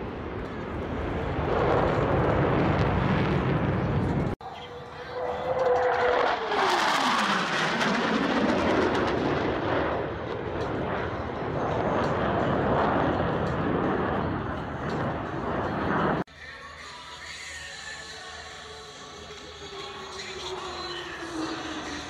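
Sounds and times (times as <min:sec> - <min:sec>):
loud jet roar: 0:00.0 - 0:16.3, 0:18.9 - 0:22.0
jet engine whine: 0:00.0 - 0:22.0.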